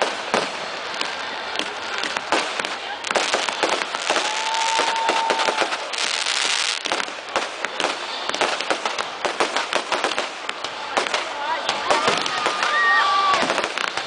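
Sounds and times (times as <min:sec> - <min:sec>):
firecrackers cracking and popping: 0:00.0 - 0:14.0
firework hissing: 0:00.0 - 0:14.0.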